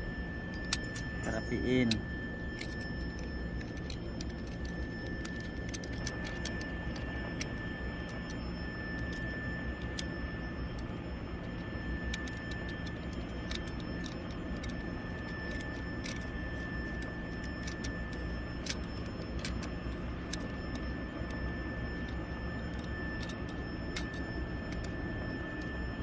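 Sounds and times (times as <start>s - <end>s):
faint high whine: 0.0s - 26.0s.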